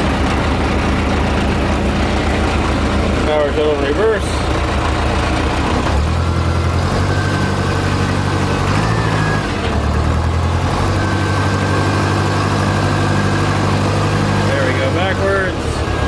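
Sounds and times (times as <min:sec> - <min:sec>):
backhoe engine running: 0:00.0 - 0:16.0.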